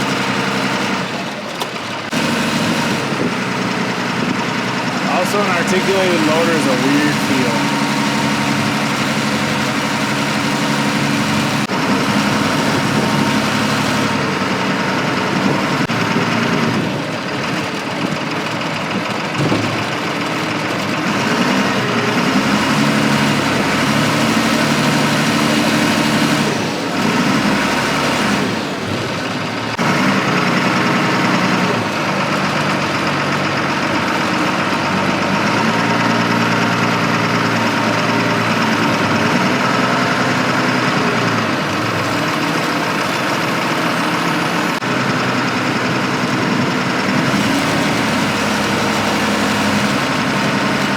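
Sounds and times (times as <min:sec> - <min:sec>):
diesel engine revving: 0:00.0 - 0:50.9.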